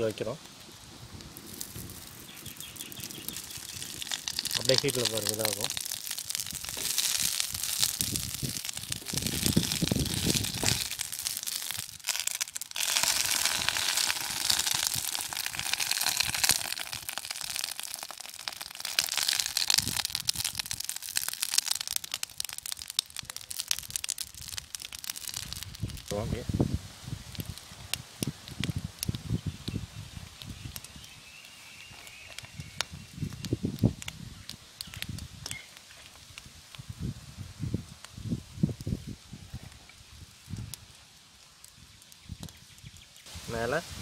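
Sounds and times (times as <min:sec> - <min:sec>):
leaf sizzling on hot griddle: 0:00.0 - 0:44.0.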